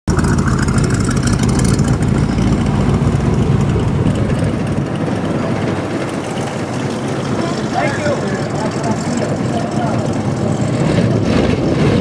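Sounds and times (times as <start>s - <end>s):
loud uneven car engine: 0.1s - 12.0s.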